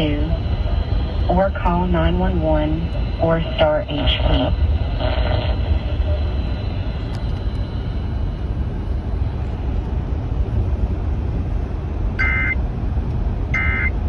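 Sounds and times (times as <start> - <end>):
radio rumble and hiss: 0.0 - 12.6.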